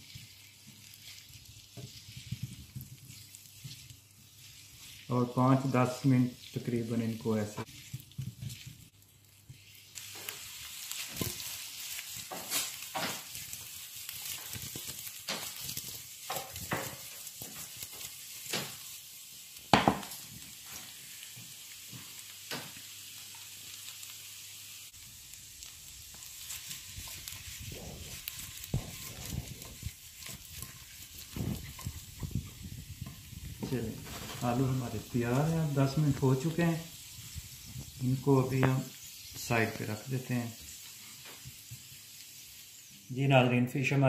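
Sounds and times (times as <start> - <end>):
spatula turning food: 0.0 - 43.2
potatoes sizzling in pan: 0.0 - 44.0.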